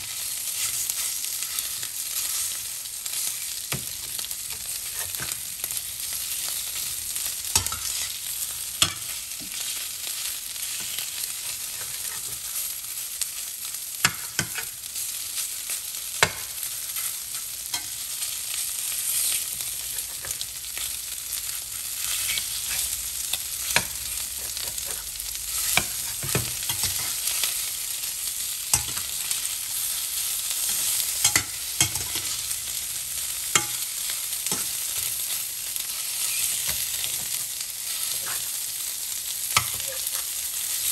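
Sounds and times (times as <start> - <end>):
chicken sizzling in skillet: 0.0 - 40.9.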